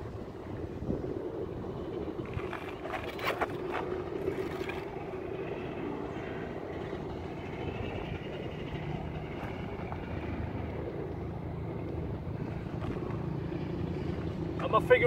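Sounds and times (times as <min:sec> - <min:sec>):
electric motor and drivetrain running: 0:00.0 - 0:15.0.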